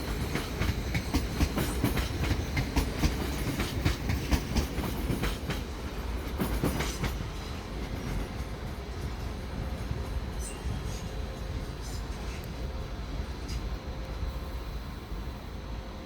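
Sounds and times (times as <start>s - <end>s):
train wheels clattering over rails: 0.0s - 13.9s.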